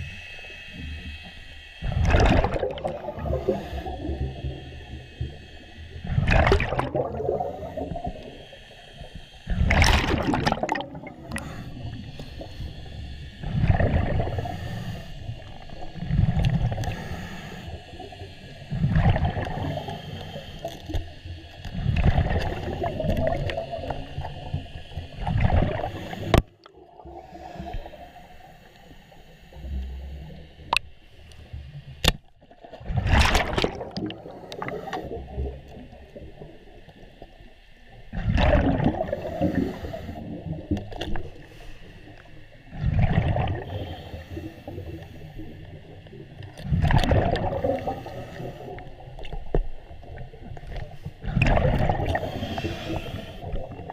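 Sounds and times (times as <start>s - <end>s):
underwater whooshing and gurgling: 0.0s - 53.9s.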